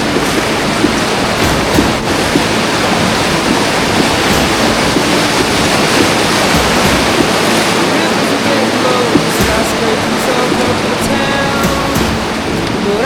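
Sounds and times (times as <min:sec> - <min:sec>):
rushing river whitewater: 0:00.0 - 0:13.0.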